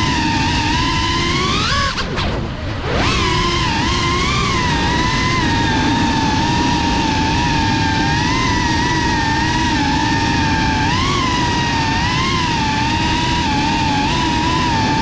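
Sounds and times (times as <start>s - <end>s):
drone motors whining: 0.0s - 15.0s
rush of air noise: 0.0s - 15.0s.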